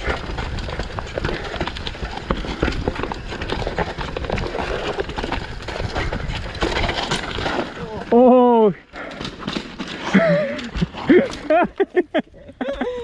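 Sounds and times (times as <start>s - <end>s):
bike rattling and knocking: 0.0s - 13.0s
bike tyres on dirt and rocks: 0.0s - 13.0s.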